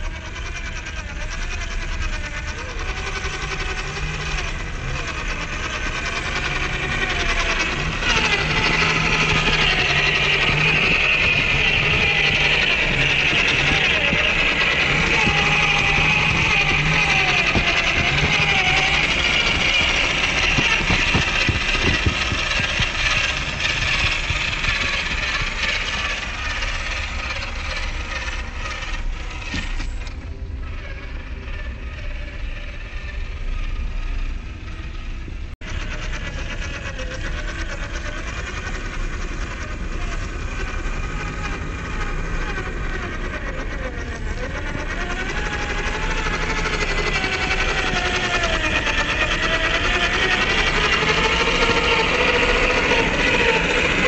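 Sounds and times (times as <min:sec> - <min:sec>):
toy car electric motor whine: 0:00.0 - 0:54.0.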